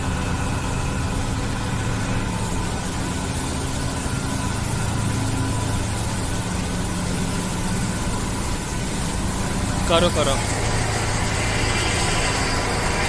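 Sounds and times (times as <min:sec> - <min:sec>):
high-pressure pump hiss: 0:00.0 - 0:13.0
jetting machine motor hum: 0:00.0 - 0:13.0.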